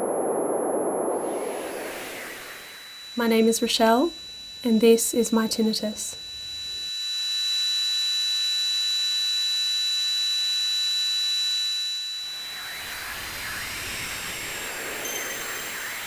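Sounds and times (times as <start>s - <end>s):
high-pitched ringing tones: 0.0s - 16.0s.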